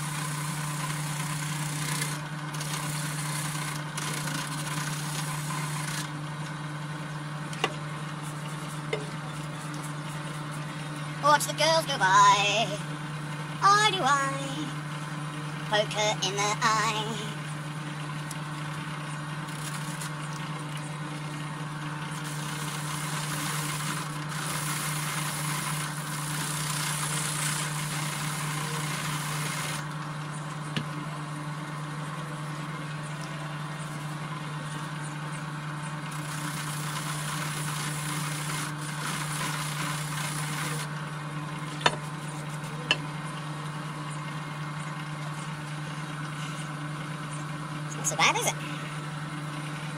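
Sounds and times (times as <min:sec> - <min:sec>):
low machine hum: 0:00.0 - 0:49.9.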